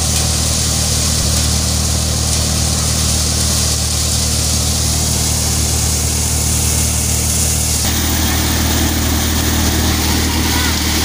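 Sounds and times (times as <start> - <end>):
loud high hiss: 0.0 - 11.0
thresher engine drone: 0.0 - 11.0.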